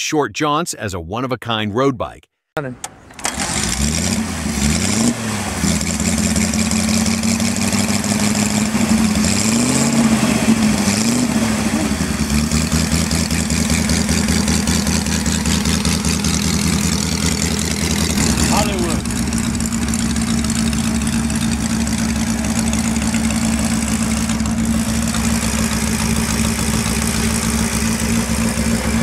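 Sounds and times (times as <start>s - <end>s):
motorcycle engine idling and revving: 3.3s - 29.0s.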